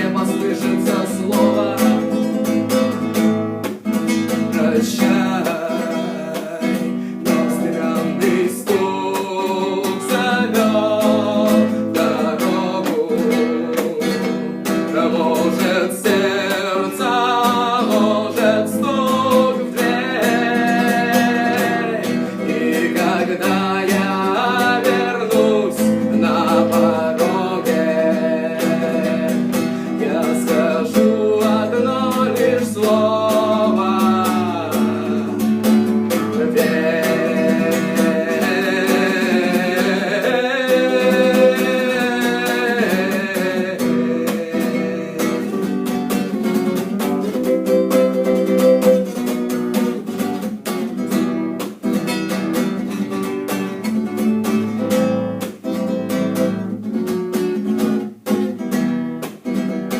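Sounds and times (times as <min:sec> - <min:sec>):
person singing: 0:00.0 - 0:03.0, 0:03.9 - 0:50.1
acoustic guitar strumming: 0:00.0 - 0:59.9.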